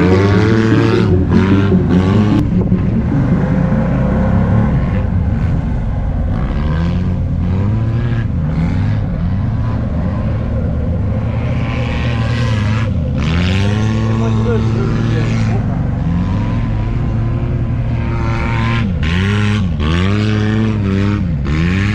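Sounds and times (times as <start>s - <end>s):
utv engine revving: 0.0s - 21.9s.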